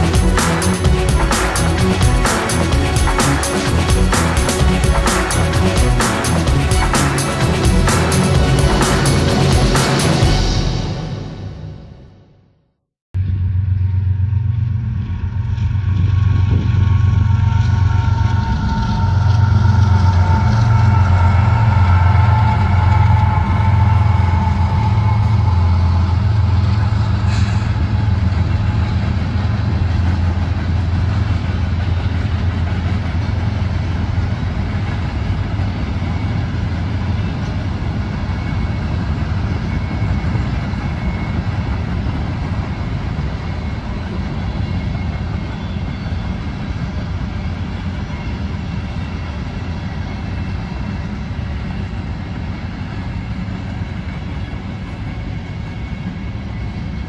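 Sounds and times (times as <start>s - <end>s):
freight train wheels rumbling: 0.0s - 12.2s, 13.2s - 57.0s.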